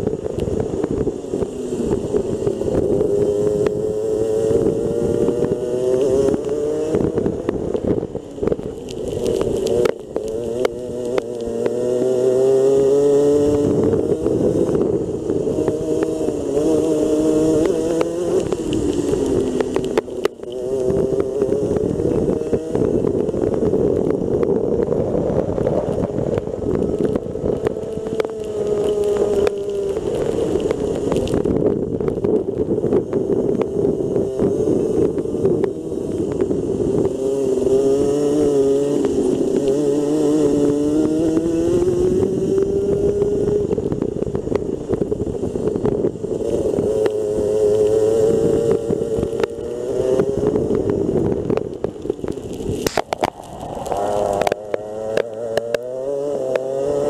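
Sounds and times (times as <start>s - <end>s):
kart engine revving: 0.2s - 7.8s, 8.7s - 31.9s, 32.6s - 44.3s, 44.9s - 57.0s.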